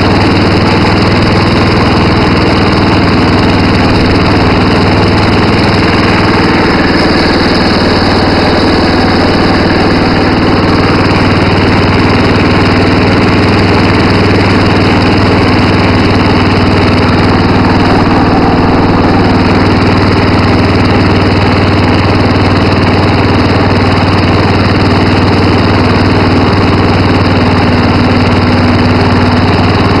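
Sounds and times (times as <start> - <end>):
garden tractor engine running: 0.0 - 30.0.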